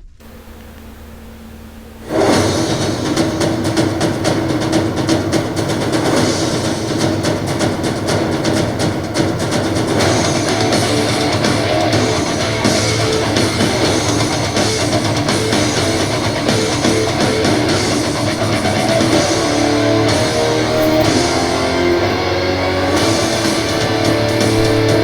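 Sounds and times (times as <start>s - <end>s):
rock music with electric guitar: 2.1s - 25.0s.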